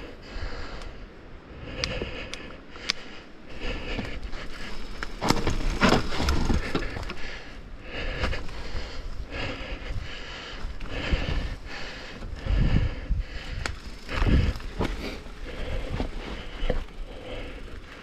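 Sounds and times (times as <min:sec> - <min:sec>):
bike tyres on dirt and rocks: 0:00.0 - 0:18.0
wind rumble on microphone: 0:03.5 - 0:18.0.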